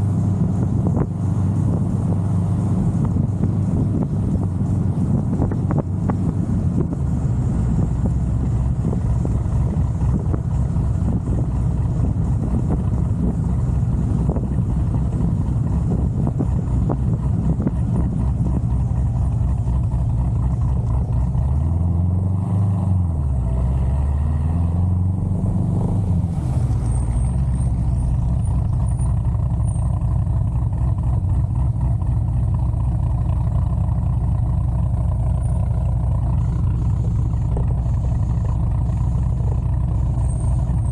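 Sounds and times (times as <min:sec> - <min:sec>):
choppy car engine revving: 0:00.0 - 0:40.9.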